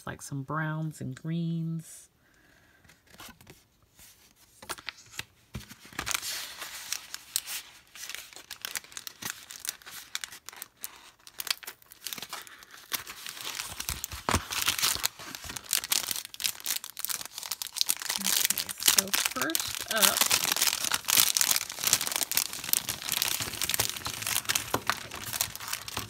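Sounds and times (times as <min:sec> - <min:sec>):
packaging crinkling and tearing: 0:04.6 - 0:26.0.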